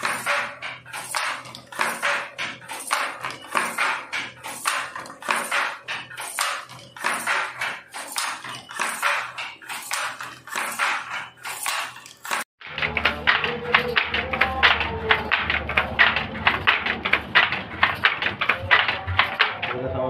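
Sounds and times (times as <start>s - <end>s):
handloom rhythmic clacking: 0.0s - 20.0s.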